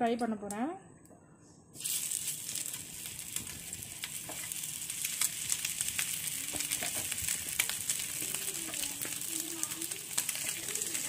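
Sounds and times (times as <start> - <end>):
chicken sizzling in a pan: 1.8 - 11.0
crackling pops: 1.8 - 11.0.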